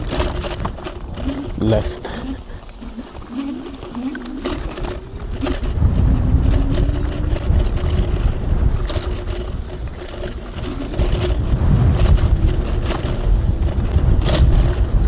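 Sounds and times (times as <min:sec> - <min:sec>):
clicks and rattles over bumps: 0:00.0 - 0:15.0
electric motor whine: 0:00.0 - 0:15.0
wind rumbling on microphone: 0:00.0 - 0:15.0.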